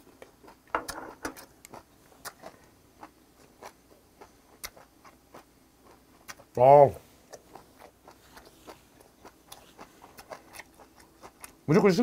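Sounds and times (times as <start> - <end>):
man chewing wet mouth sounds: 0.0 - 11.7.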